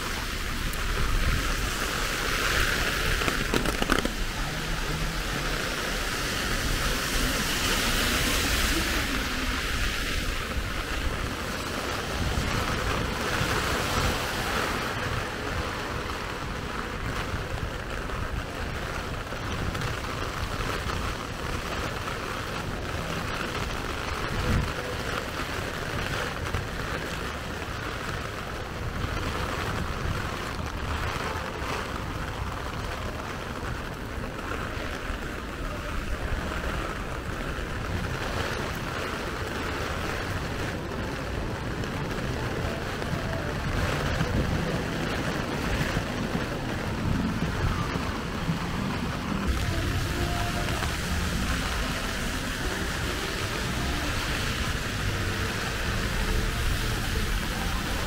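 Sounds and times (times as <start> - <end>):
heavy rain falling: 0.0 - 58.0
wind rumbling on microphone: 0.0 - 58.0.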